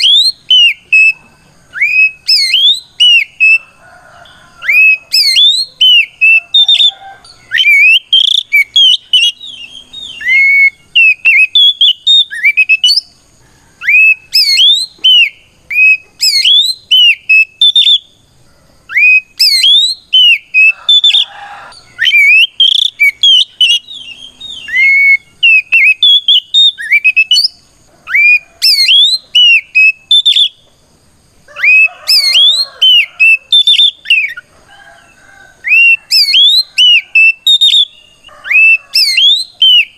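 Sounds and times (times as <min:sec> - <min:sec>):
bird singing whistled notes: 0:00.0 - 0:13.2, 0:13.8 - 0:18.2, 0:18.9 - 0:30.7, 0:31.5 - 0:34.5, 0:35.6 - 0:39.9.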